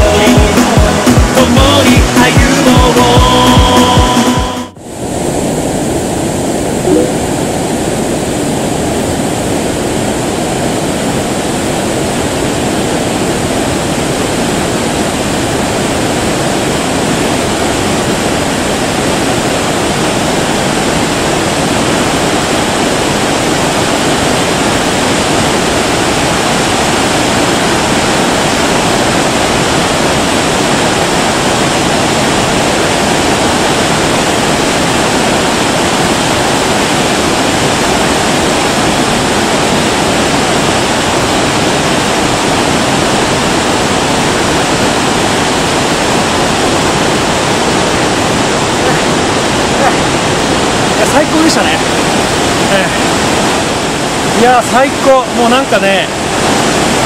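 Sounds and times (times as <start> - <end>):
white water rushing: 0.0 - 57.0.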